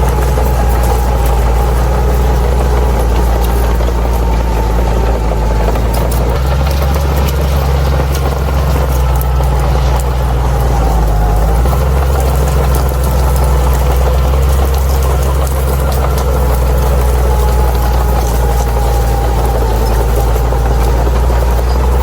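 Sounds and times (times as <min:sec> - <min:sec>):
bulldozer diesel engine drone: 0:00.0 - 0:22.0.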